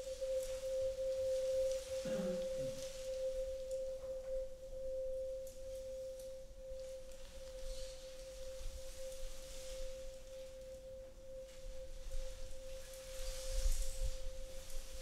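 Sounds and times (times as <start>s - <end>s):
electronic sine tone: 0.0s - 15.0s.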